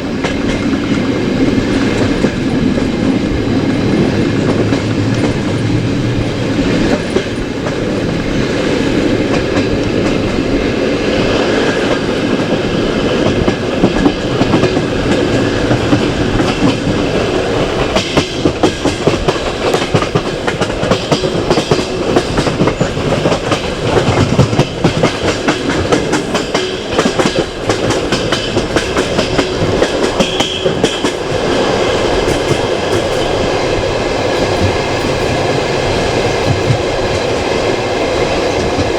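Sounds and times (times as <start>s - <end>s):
train carriage rumble: 0.0s - 38.9s
train wheels clattering over rails: 0.0s - 38.9s.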